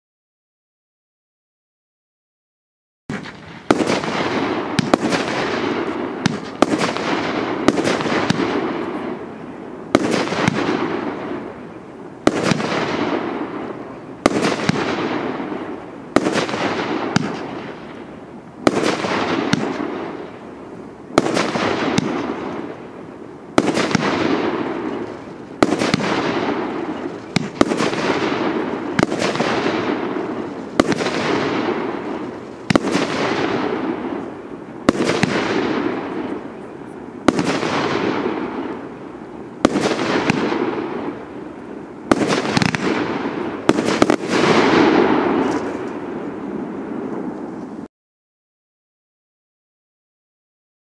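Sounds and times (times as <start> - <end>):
fireworks cake firing: 3.1 - 47.8.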